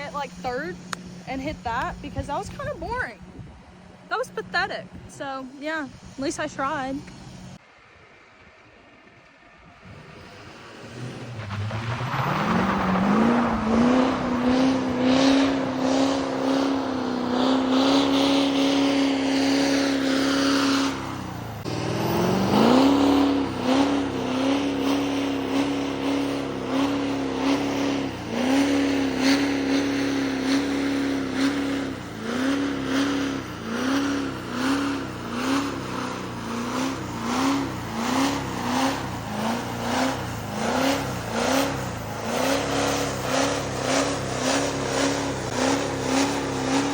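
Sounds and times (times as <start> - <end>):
diesel engine revving: 0.0 - 7.6, 9.4 - 46.9.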